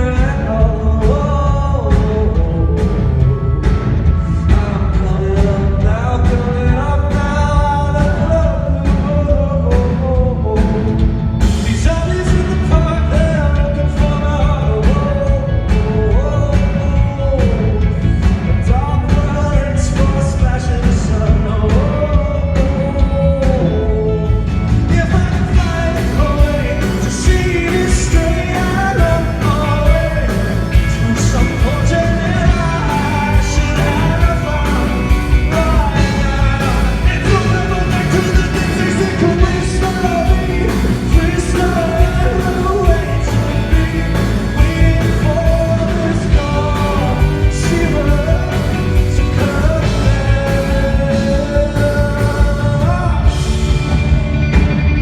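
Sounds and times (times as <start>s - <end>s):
live rock band playing: 0.0s - 55.0s
man singing: 0.0s - 55.0s
steady drum beat: 0.0s - 55.0s.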